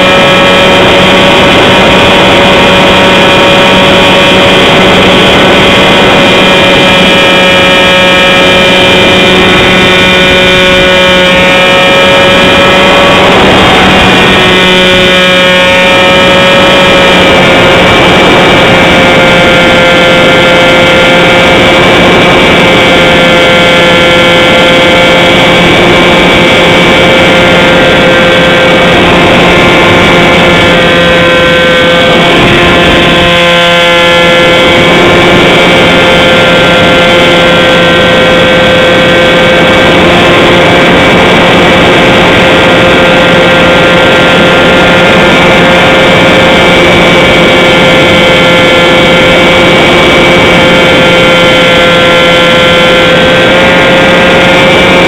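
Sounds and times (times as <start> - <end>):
model plane motor and propeller drone: 0.0 - 55.0
wind rush: 0.0 - 55.0.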